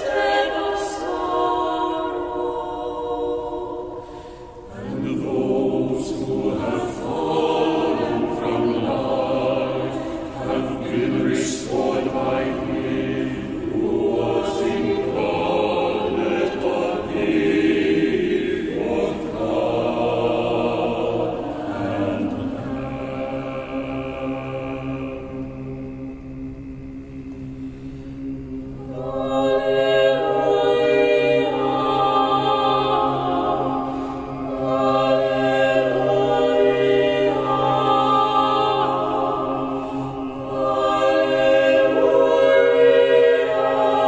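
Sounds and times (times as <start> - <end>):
choir singing unaccompanied: 0.0 - 44.0.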